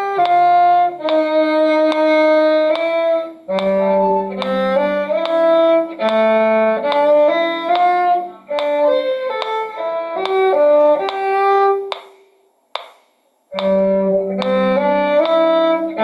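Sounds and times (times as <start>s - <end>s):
violin playing lively melody: 0.0s - 12.0s, 13.6s - 16.0s
lower string part: 0.0s - 16.0s.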